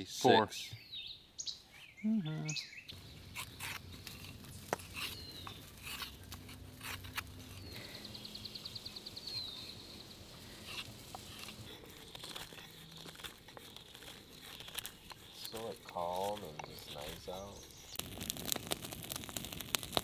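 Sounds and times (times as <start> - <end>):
songbirds chirping: 0.0 - 18.0
rapid trilled birdsong: 0.5 - 6.3, 7.3 - 18.1.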